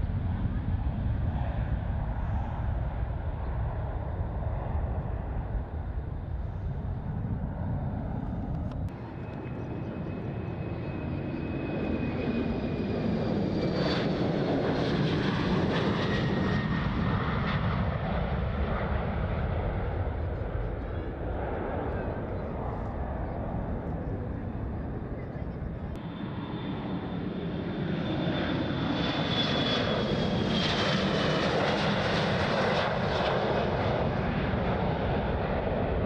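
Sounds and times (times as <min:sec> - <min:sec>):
jet engine whine: 0:00.0 - 0:36.0
jet engines rumbling: 0:00.0 - 0:36.0.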